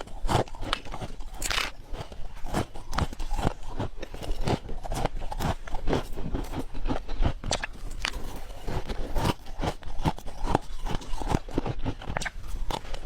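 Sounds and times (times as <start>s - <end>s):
ice being crunched and chewed: 0.0s - 13.0s.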